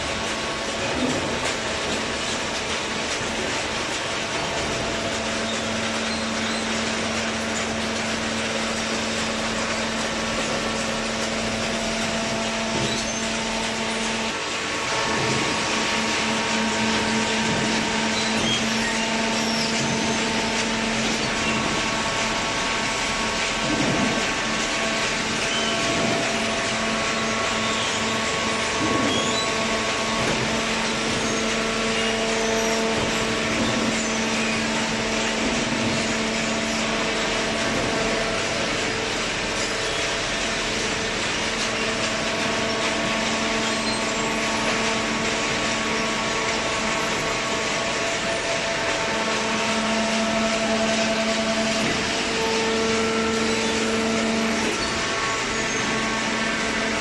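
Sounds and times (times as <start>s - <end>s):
machine whine: 0.0s - 57.0s
machinery noise: 0.0s - 57.0s.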